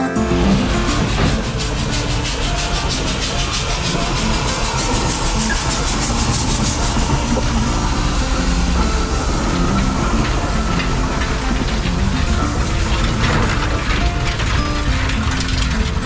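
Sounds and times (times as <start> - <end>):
steam hissing: 0.0 - 16.0
wheels and trailers rumbling: 0.0 - 16.0
steam engine exhaust chuffing: 0.2 - 16.0.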